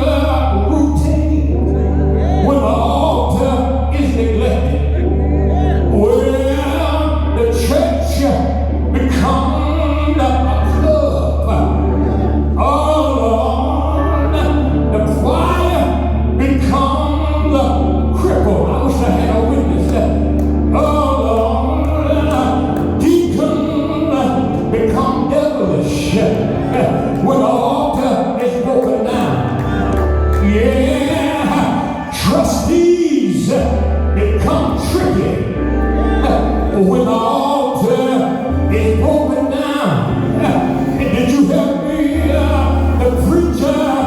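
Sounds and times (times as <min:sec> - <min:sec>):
steady low bass note: 0:00.0 - 0:28.2, 0:29.1 - 0:44.0
gospel singing voice: 0:00.0 - 0:44.0.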